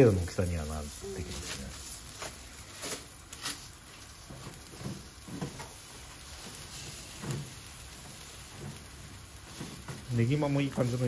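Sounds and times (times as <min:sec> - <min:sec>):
skewers sizzling on grill: 0:00.0 - 0:11.0.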